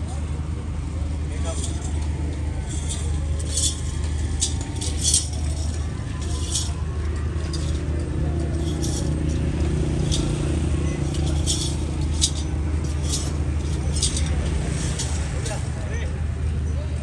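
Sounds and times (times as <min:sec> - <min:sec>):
metallic clinks and jingles: 0:01.3 - 0:15.7.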